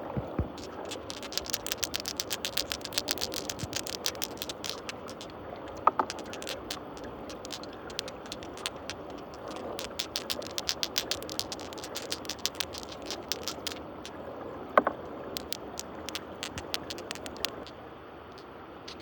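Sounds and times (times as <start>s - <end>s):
glass marbles clinking: 0.5s - 13.8s, 15.3s - 17.7s.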